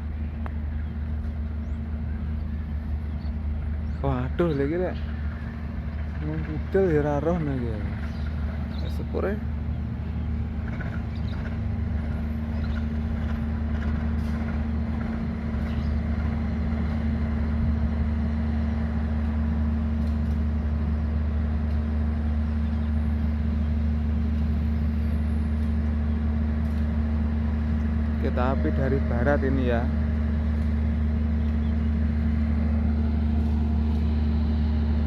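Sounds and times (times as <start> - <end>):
locomotive engine idling: 0.0 - 35.0.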